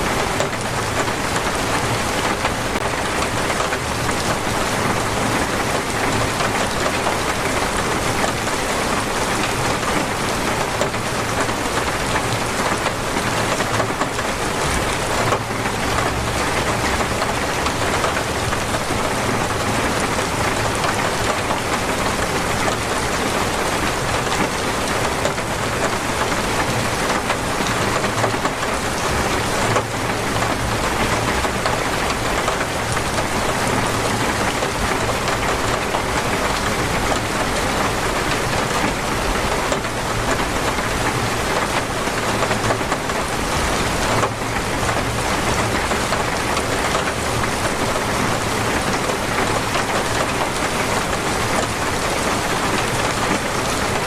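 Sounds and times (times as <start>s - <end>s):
torrential rain: 0.0s - 54.0s.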